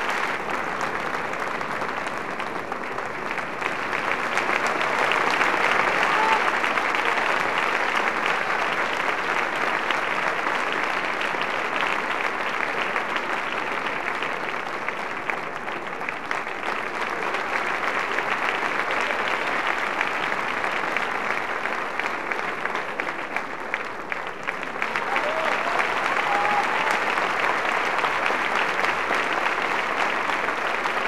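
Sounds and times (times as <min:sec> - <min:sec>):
large audience applauding: 0:00.0 - 0:31.0.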